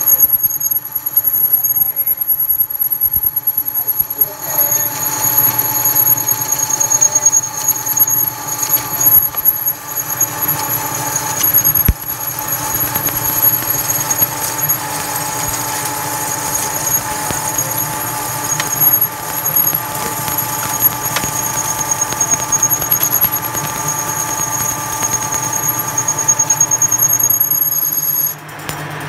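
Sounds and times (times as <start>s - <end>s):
metal lathe cutting steel: 0.0s - 28.5s.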